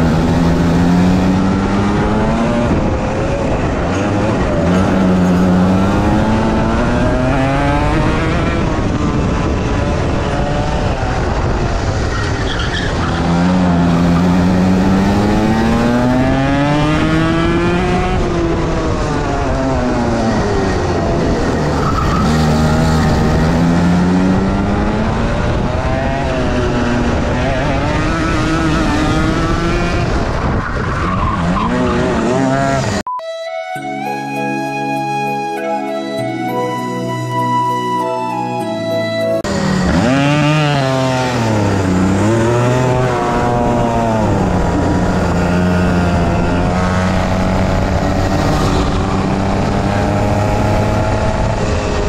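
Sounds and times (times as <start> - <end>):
kart engine revving: 0.0 - 33.1, 39.4 - 52.0.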